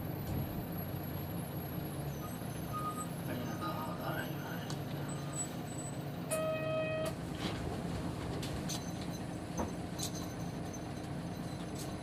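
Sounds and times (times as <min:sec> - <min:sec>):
diesel bus engine running: 0:00.0 - 0:12.0.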